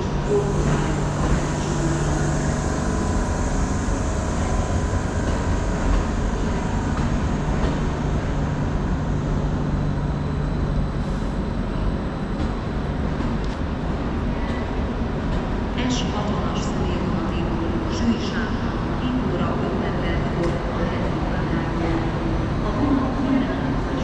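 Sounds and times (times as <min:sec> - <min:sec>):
low hum: 0:00.0 - 0:24.0
trains rumbling and humming: 0:00.0 - 0:24.0.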